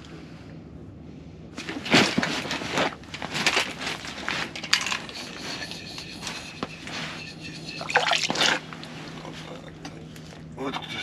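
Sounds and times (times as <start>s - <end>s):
steady low hum: 0.0s - 11.0s
rustling and scraping of objects: 1.6s - 11.0s.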